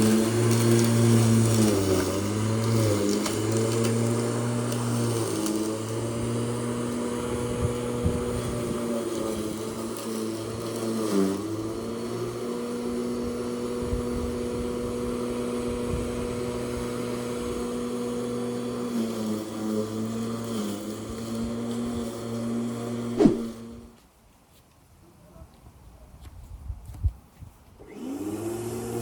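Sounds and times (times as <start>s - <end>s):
lawn mower engine running: 0.0s - 23.9s.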